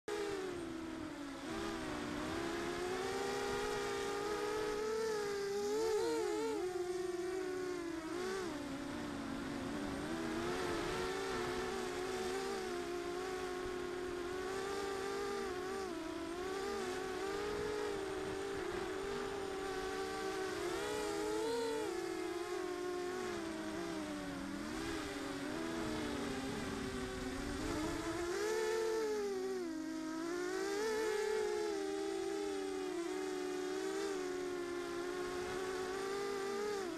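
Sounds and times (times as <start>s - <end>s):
drone motors buzzing: 0.0s - 36.9s.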